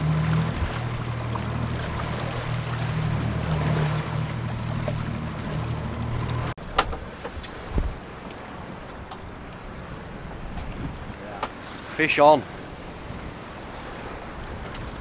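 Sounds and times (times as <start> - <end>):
outboard motor running: 0.0 - 15.0
water rushing along hull: 0.0 - 15.0
wind: 0.0 - 15.0.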